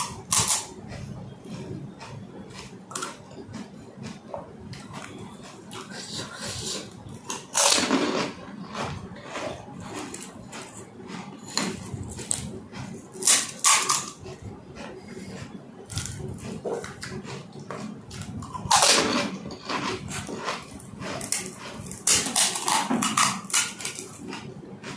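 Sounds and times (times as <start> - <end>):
wet slurping and chewing: 0.0 - 24.9.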